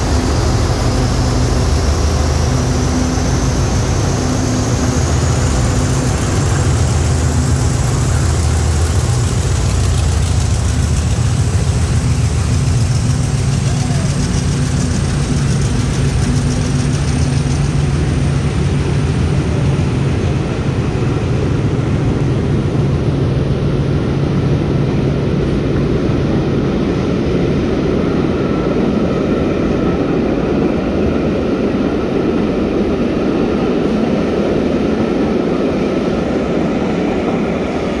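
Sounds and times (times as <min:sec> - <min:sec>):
train engine hum: 0:00.0 - 0:38.0
train wheels rumbling on rails: 0:00.0 - 0:38.0.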